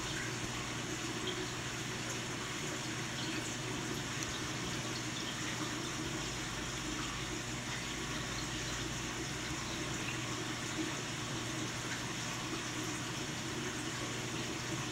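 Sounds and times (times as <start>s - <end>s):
water running into tank: 0.0s - 14.9s.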